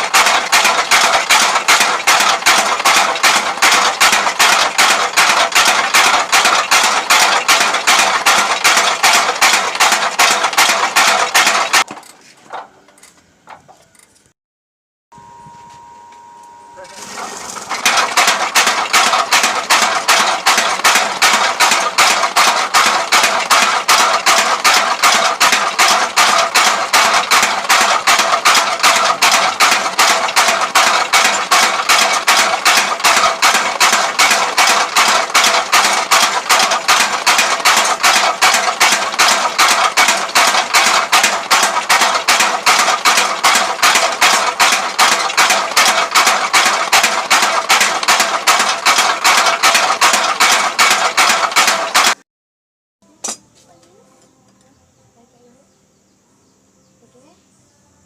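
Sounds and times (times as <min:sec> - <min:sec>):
power hammer pounding steel: 0:00.0 - 0:12.0, 0:17.0 - 0:52.2.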